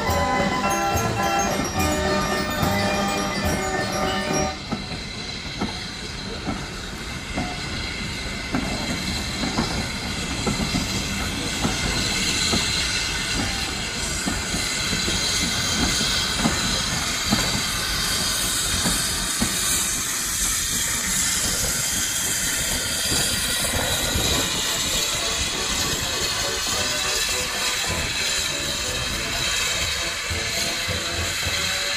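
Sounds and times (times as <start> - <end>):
steam hissing: 0.0 - 31.9
train clanks and knocks: 0.0 - 31.9.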